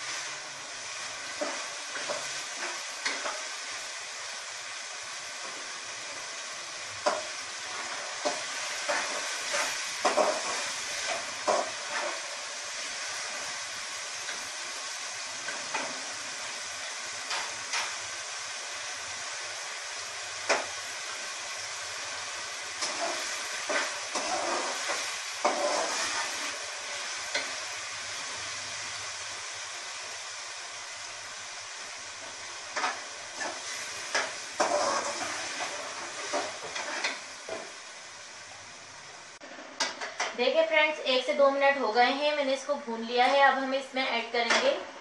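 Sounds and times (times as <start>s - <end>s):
meat frying in oil: 0.0s - 44.8s.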